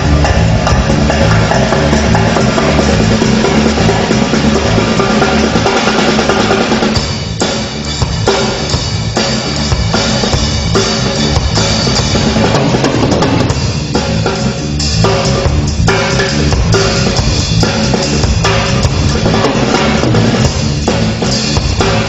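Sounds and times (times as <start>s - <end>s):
drum kit played fast: 0.0s - 22.0s.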